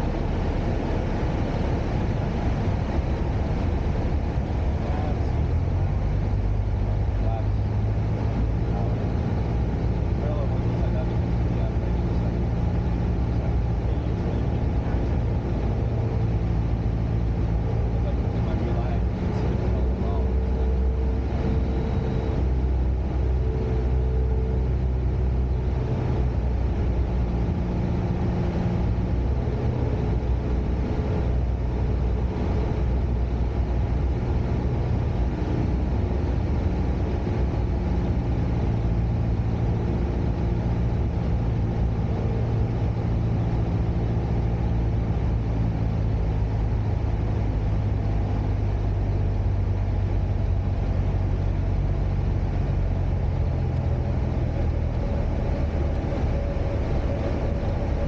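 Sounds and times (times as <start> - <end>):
small plane engine drone: 0.0 - 58.0.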